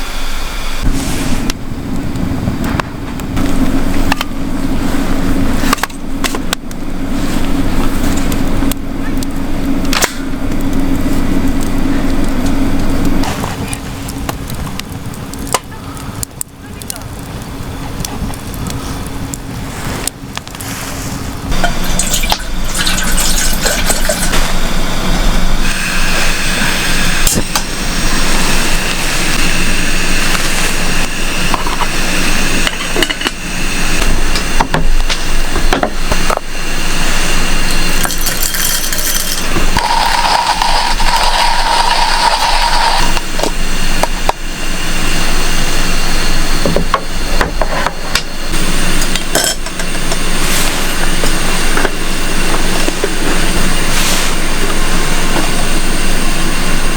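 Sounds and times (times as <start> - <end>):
low hum: 0.0 - 56.9.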